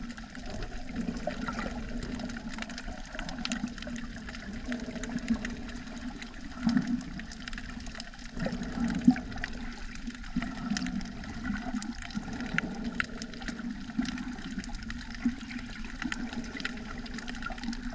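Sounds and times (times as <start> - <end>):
low churning rumble: 0.0 - 17.9
sharp clicks underwater: 0.0 - 17.9
water sloshing and bubbling: 0.0 - 17.9.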